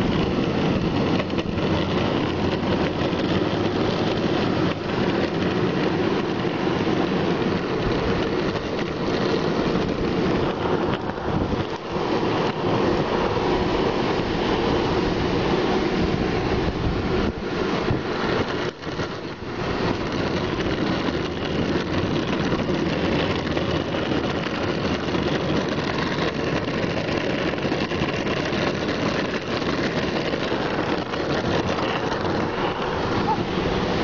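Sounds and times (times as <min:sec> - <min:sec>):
skateboard wheels rolling on asphalt: 0:00.0 - 0:34.0.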